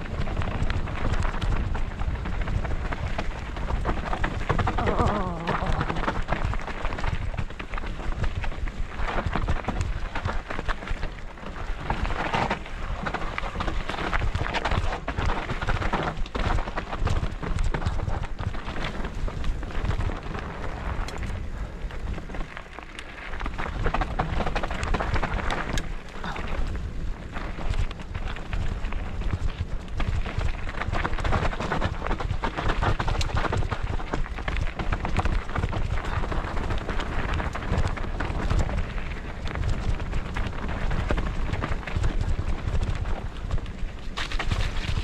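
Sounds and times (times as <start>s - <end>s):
wind buffeting microphone: 0.0s - 22.5s, 23.3s - 45.0s
bike tyres clicking on rough trail: 0.0s - 45.0s
steady rumble: 0.0s - 45.0s.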